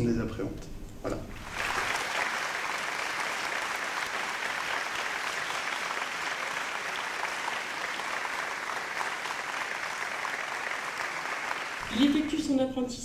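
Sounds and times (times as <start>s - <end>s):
audience applauding: 1.3s - 12.6s.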